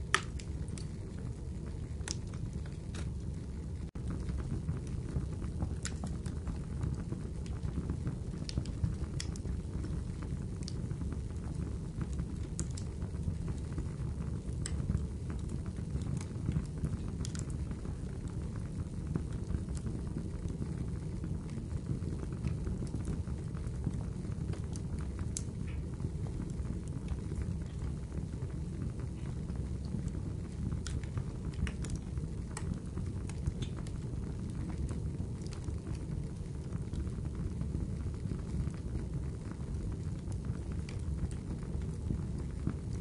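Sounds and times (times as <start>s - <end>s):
fire crackling and popping: 0.0s - 43.0s.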